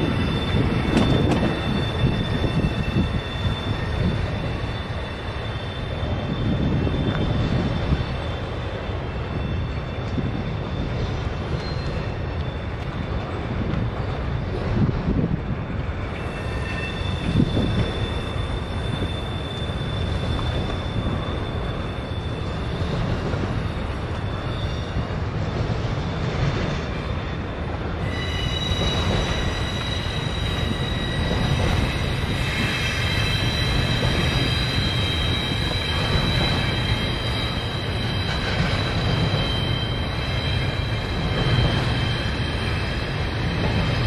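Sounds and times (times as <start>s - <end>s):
high wheel squeals: 0.0s - 14.5s, 15.9s - 44.0s
train wheels rumbling on rails: 0.0s - 44.0s.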